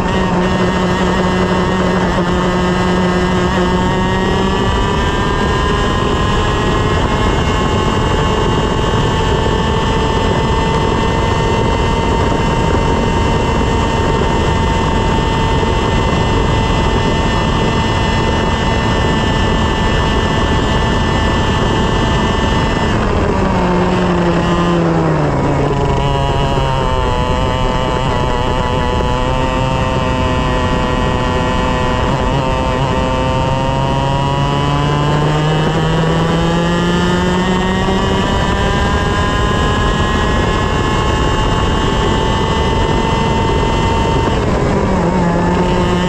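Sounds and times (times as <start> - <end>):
kart engine at high revs: 0.0 - 46.0.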